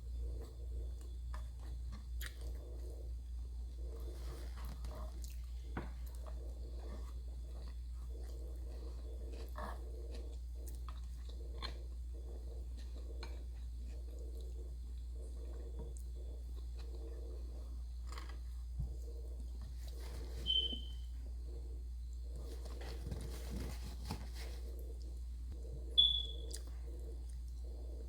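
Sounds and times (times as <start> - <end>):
steady low hum: 0.0 - 28.0
person chewing: 0.2 - 20.7, 24.5 - 28.0.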